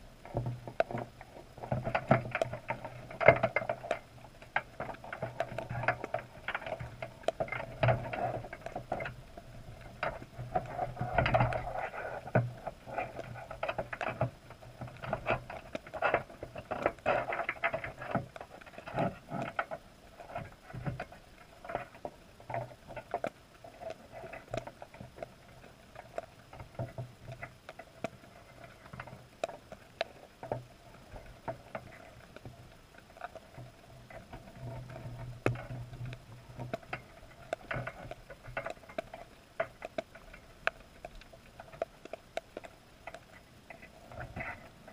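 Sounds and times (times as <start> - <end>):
underwater clicks and knocks: 0.2 - 44.9.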